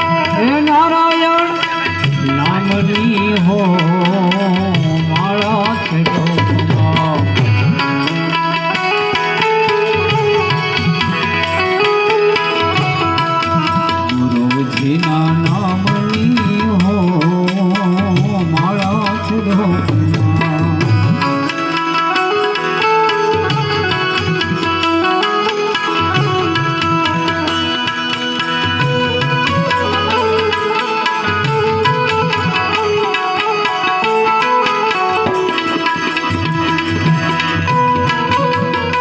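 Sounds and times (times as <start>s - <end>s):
harmonium melody: 0.0s - 39.0s
tabla rhythm: 0.0s - 39.0s.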